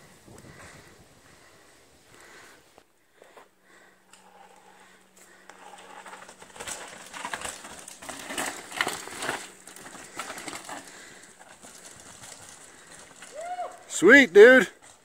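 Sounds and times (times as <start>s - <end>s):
bike tyres on rock and dirt: 0.0s - 15.0s.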